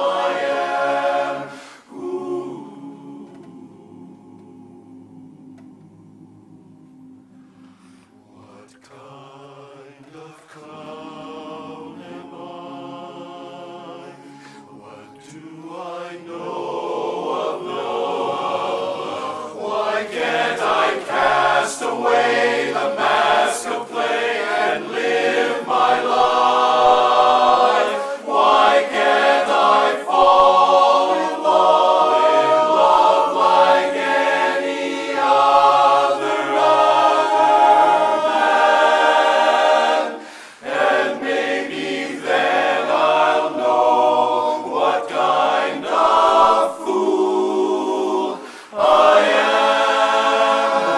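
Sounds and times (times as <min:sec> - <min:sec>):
men's chorus singing a cappella: 0:00.0 - 0:50.9.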